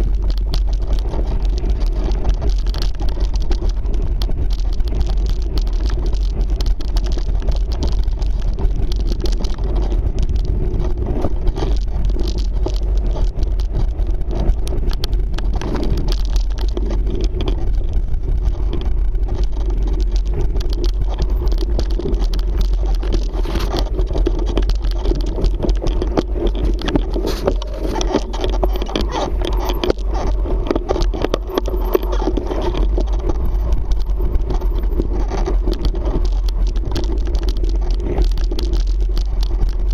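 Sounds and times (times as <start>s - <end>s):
bike rattling and clicking: 0.0s - 39.9s
tyres crunching over dirt and stones: 0.0s - 39.9s
wind buffeting microphone: 0.0s - 39.9s.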